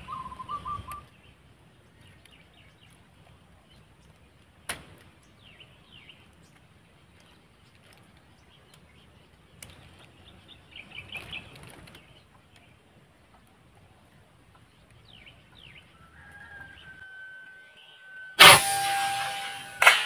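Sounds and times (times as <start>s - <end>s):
small birds chirping: 0.0s - 18.3s.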